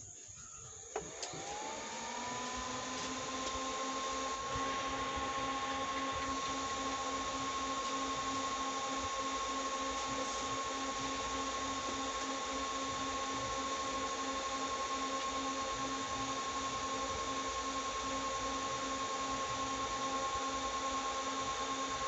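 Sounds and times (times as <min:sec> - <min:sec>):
cooling fan whirring: 0:00.1 - 0:22.0.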